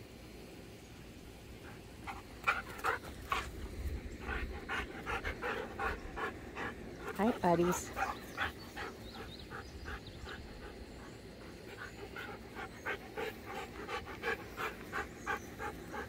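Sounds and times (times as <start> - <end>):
dog panting hard: 1.6 - 16.0.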